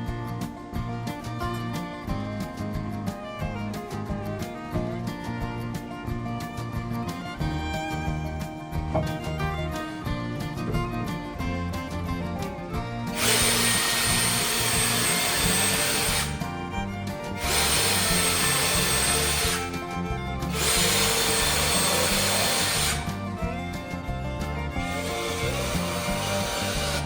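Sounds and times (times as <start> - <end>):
background music: 0.0 - 27.0
power tool whining: 0.0 - 27.0.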